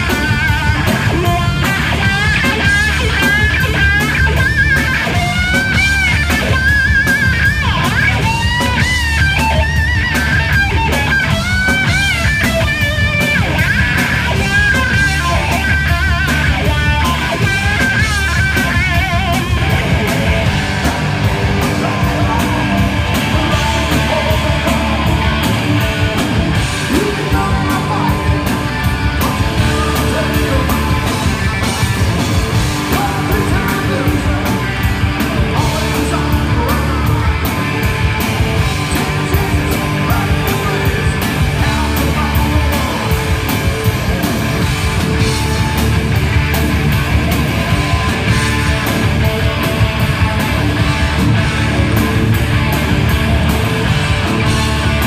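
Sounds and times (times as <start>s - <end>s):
distorted electric guitar solo: 0.0s - 55.0s
rock band playing: 0.0s - 55.0s.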